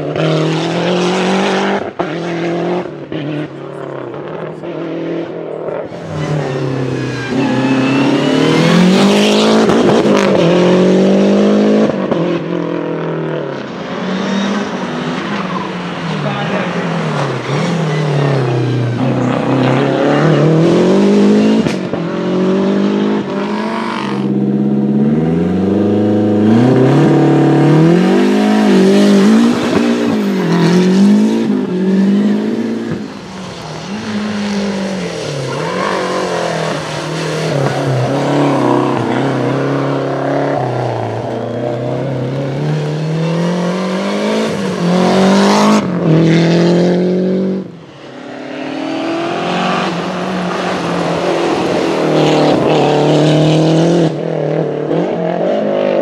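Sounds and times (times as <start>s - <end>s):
rally car engines revving hard: 0.0s - 56.0s.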